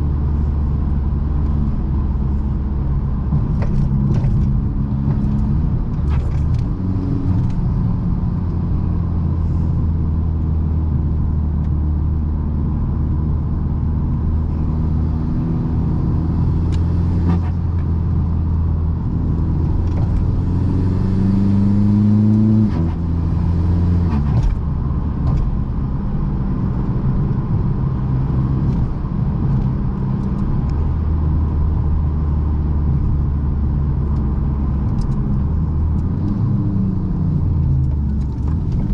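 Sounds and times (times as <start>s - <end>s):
diesel engine driving: 0.0s - 38.9s.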